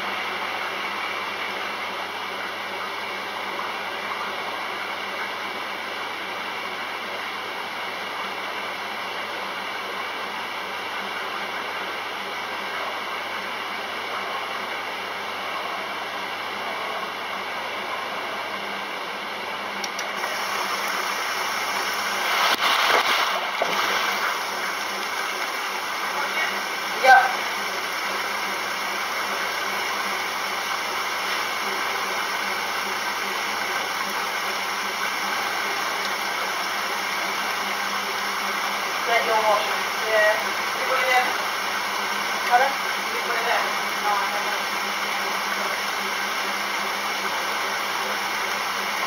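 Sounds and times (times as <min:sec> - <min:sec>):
washing machine whirring: 0:00.0 - 0:49.0.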